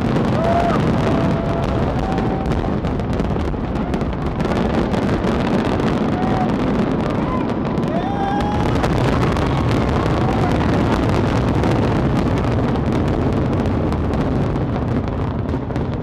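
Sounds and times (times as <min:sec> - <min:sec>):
fireworks bursting: 0:00.0 - 0:16.0
fireworks crackling: 0:00.0 - 0:16.0.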